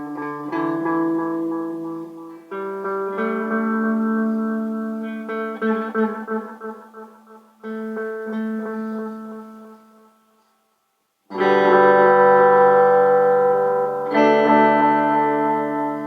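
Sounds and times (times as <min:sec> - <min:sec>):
electric guitar with echo: 0:00.0 - 0:10.6, 0:11.3 - 0:16.0.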